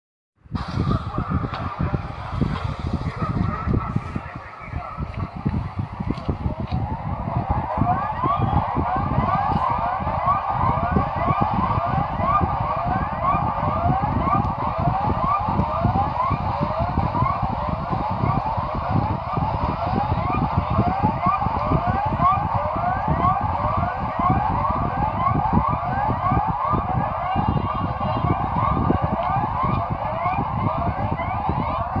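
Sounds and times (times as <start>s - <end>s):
low rumble: 0.5s - 32.0s
alarm siren rising sweeps: 0.6s - 32.0s.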